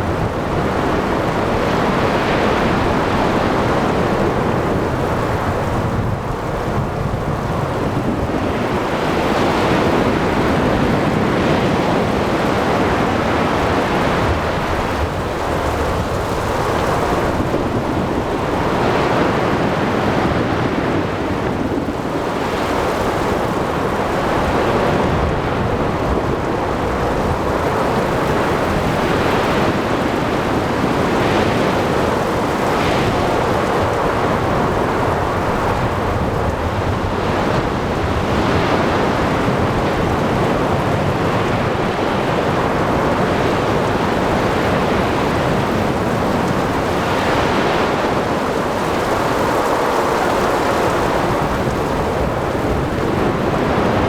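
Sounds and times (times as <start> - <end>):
heavy rain: 0.0 - 54.0
wind: 0.0 - 54.0.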